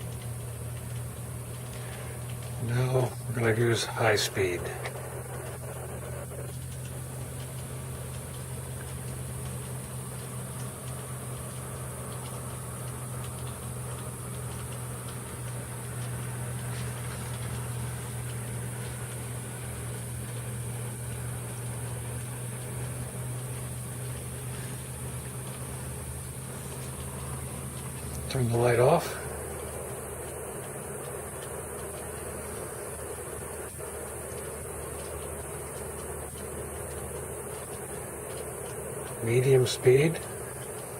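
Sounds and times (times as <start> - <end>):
ceiling fan humming: 0.0 - 40.9
rain dripping off roof: 0.0 - 40.9.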